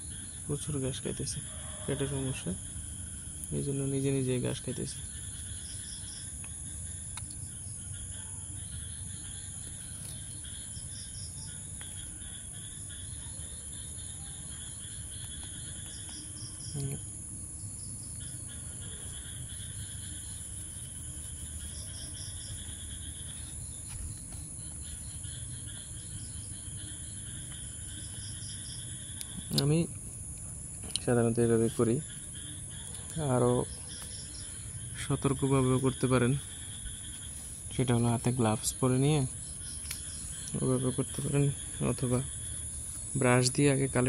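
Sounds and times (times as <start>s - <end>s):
crickets chirping: 0.0s - 44.0s
high-pitched insect drone: 0.0s - 44.0s.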